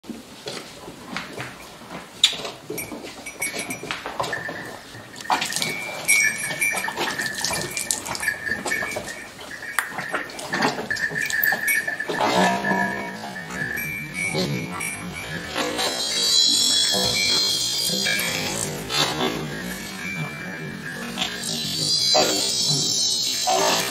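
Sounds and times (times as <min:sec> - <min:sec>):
high steady tone: 0:02.8 - 0:23.8.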